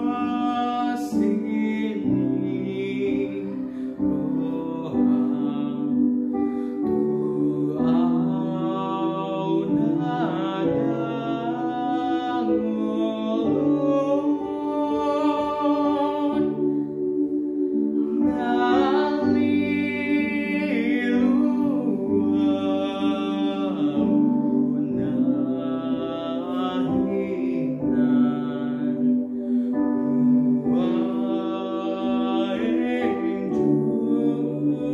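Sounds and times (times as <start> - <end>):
sustained instrumental chords: 0.0 - 34.9
young man singing with vibrato: 0.0 - 34.9.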